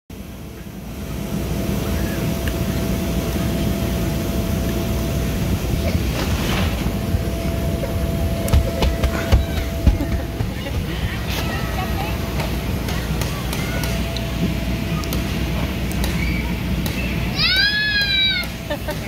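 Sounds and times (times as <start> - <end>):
thin steady whine: 0.1 - 19.0
electric air blower drone: 0.2 - 19.0.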